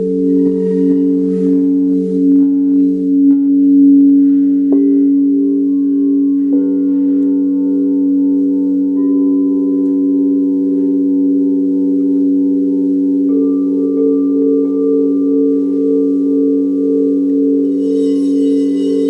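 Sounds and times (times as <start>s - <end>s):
singing bowl struck: 0.0s - 19.0s
singing bowls ringing: 0.0s - 19.0s.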